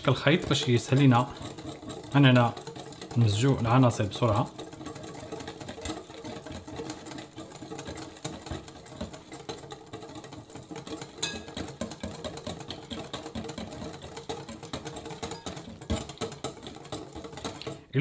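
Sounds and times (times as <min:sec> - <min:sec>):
electric mixer running: 0:00.0 - 0:18.0.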